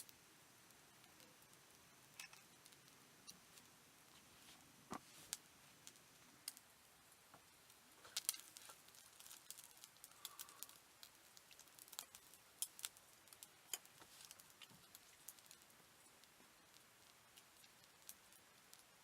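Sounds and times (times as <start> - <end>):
faint small clicks and ticks: 0.0 - 19.0.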